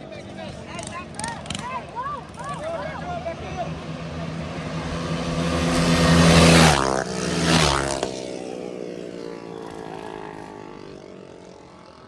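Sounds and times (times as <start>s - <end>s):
minibike engines passing: 0.0s - 12.0s.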